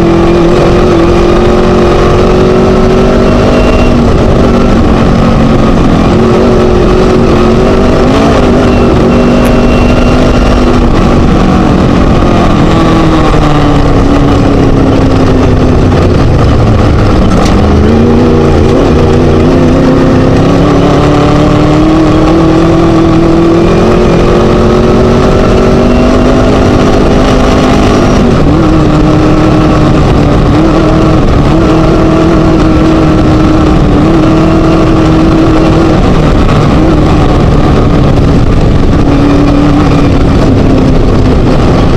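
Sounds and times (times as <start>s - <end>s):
buggy engine running hard: 0.0s - 41.9s
rough noise: 0.0s - 41.9s.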